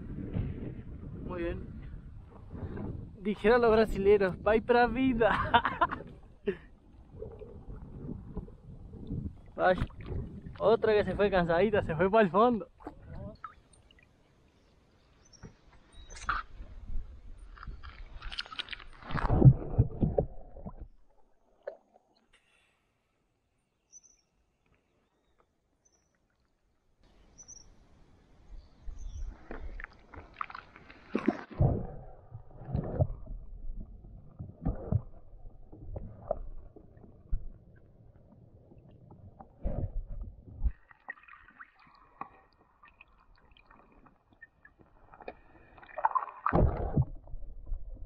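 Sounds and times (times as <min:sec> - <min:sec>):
muffled water sloshing: 0:00.0 - 0:22.4, 0:28.9 - 0:48.0.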